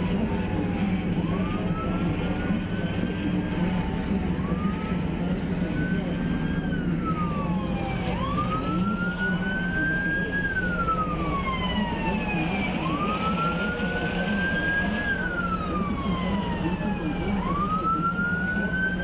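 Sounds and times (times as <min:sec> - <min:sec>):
steady low drone: 0:00.0 - 0:19.0
wailing siren: 0:00.0 - 0:19.0.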